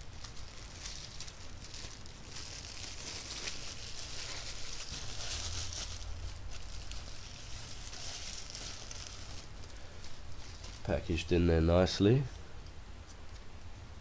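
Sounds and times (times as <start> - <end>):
packaging rustling and crinkling: 0.0 - 11.3.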